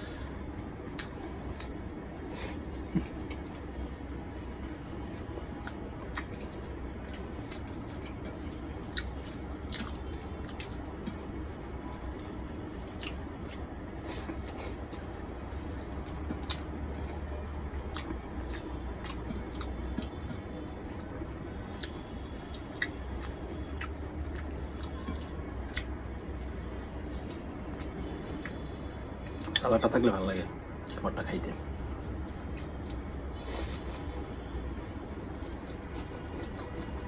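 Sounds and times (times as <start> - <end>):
steady low hum: 0.0 - 37.0
chewing: 0.1 - 17.2, 17.8 - 28.7, 29.4 - 29.7, 31.7 - 37.0.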